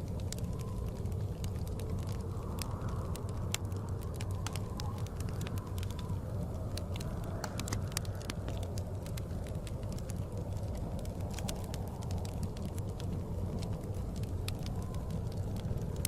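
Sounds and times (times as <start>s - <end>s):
blizzard wind rumble: 0.0s - 16.0s
wood fire crackling and popping: 0.0s - 16.0s.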